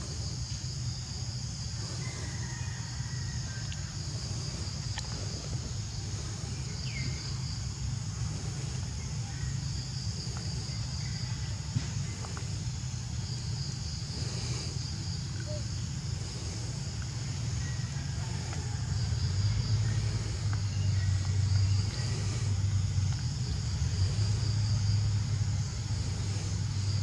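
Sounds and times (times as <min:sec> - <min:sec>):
high-pitched insect chorus: 0:00.0 - 0:27.0
low steady rumble: 0:00.0 - 0:27.0.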